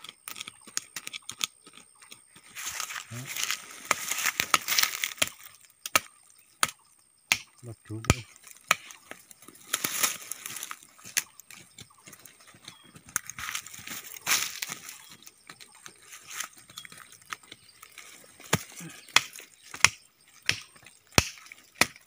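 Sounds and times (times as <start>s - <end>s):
knife scraping in dry soil: 0.0s - 6.4s, 8.3s - 22.0s
knife chopping into ground: 0.0s - 22.0s.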